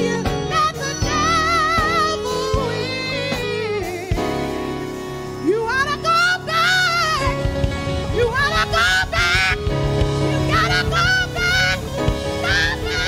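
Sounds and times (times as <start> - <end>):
organ chords: 0.0 - 13.0
person singing with vibrato: 0.0 - 13.0.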